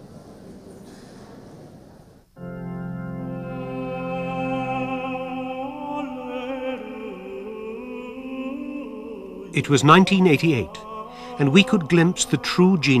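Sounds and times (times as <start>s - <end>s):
slow music of long held notes: 2.4s - 13.0s.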